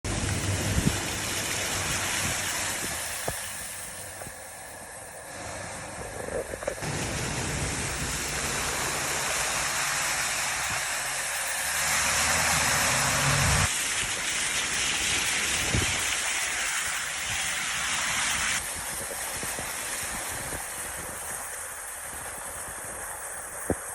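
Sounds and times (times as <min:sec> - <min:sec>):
heavy rain pouring: 0:00.1 - 0:23.9.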